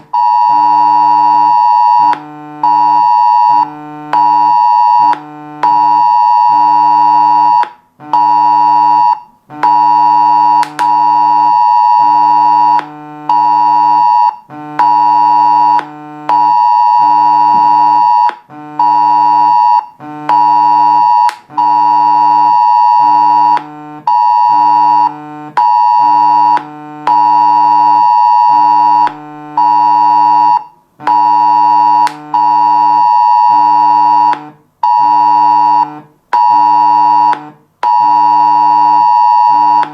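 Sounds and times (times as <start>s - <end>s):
phone emergency alert tone: 0.2s - 39.9s.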